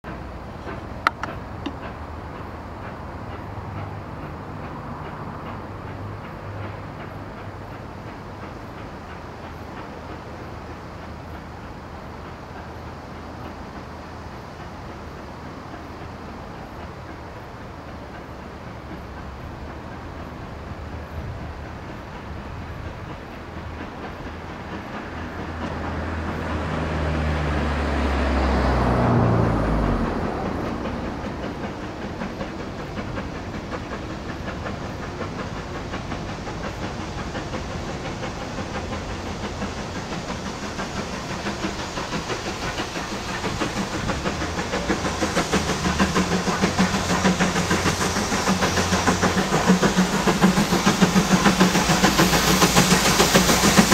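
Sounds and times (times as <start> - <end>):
steam locomotive exhaust beats: 0.0 - 53.9.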